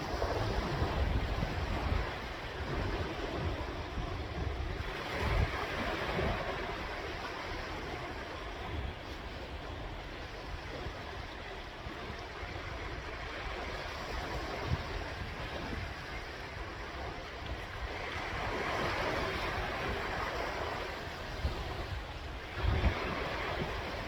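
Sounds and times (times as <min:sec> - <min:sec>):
sea waves washing ashore: 0:00.0 - 0:24.0.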